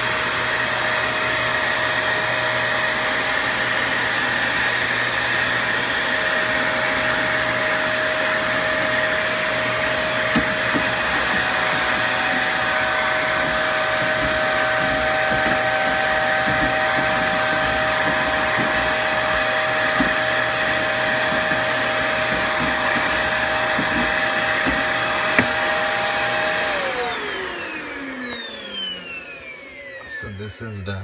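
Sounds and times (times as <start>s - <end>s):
vacuum motor spinning down: 0.0s - 30.5s
vacuum cleaner running: 0.0s - 30.9s.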